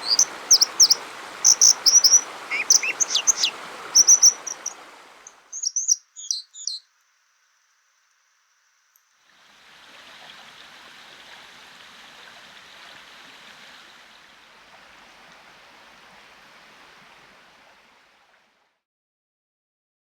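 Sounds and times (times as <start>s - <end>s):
stream water rushing: 0.0s - 6.7s, 9.2s - 18.6s.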